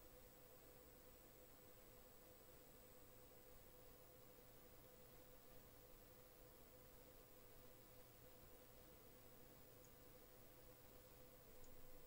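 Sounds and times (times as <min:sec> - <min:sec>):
faint recording hiss: 0:00.0 - 0:12.0.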